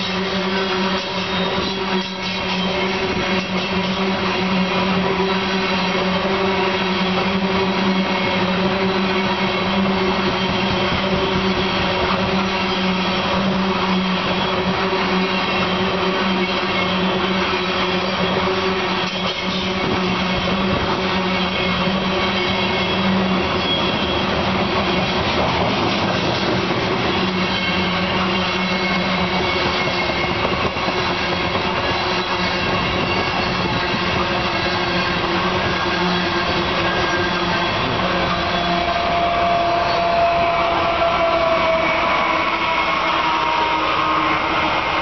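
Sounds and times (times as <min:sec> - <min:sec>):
diesel locomotive passing: 0:00.0 - 0:45.0
train wheels rumbling on rails: 0:00.0 - 0:45.0.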